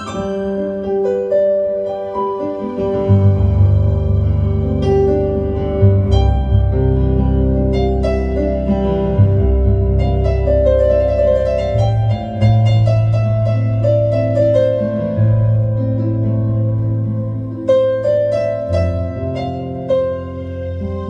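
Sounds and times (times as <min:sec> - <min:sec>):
piano improvisation: 0:00.0 - 0:21.0.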